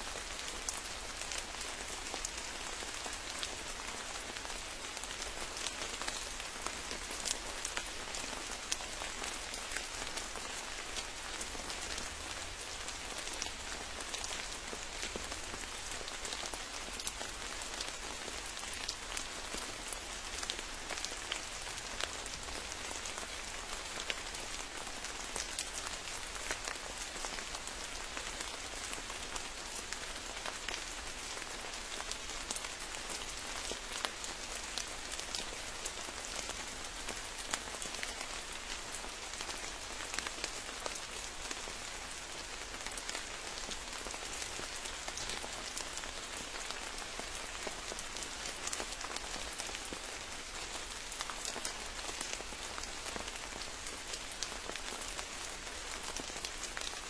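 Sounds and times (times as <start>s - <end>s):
rain falling: 0.0s - 57.0s
raindrops pattering: 0.2s - 57.0s.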